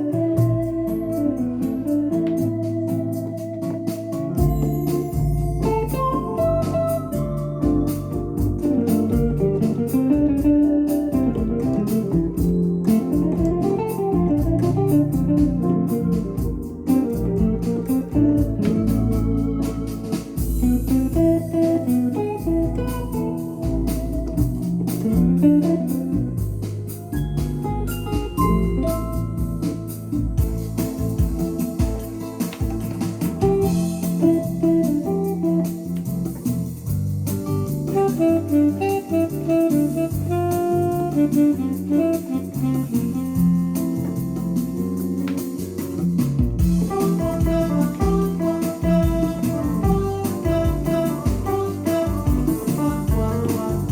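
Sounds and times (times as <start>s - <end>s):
bass line: 0.0s - 53.9s
drum beat: 0.0s - 53.9s
guitar-like lead melody: 0.0s - 53.9s
keyboard chords: 0.0s - 53.9s.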